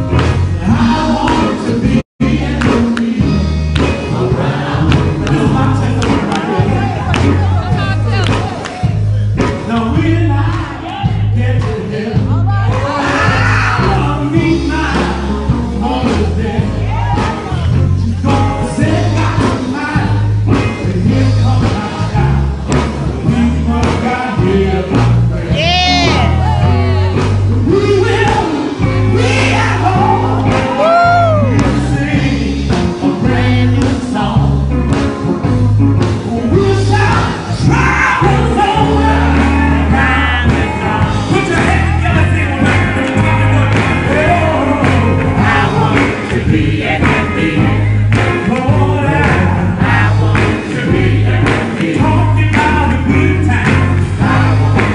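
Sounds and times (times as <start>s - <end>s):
male vocal group singing: 0.0s - 35.1s, 36.0s - 54.9s
heavy pulsing bass line: 0.0s - 54.9s.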